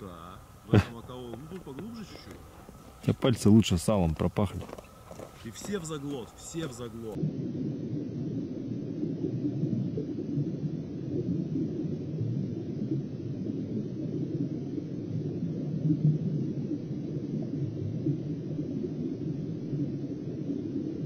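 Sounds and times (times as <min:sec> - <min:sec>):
muffled underwater rumble: 0:00.0 - 0:21.0.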